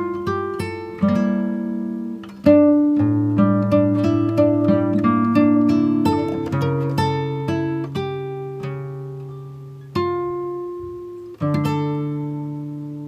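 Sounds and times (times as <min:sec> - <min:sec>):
plucked acoustic guitar music: 0:00.0 - 0:13.0.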